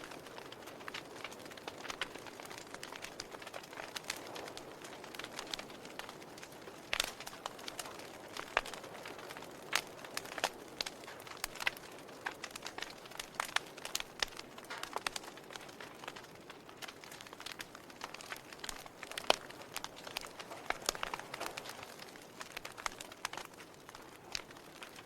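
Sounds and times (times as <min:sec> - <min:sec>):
log fire crackling: 0:00.0 - 0:25.0
soft fire hiss: 0:00.0 - 0:25.0.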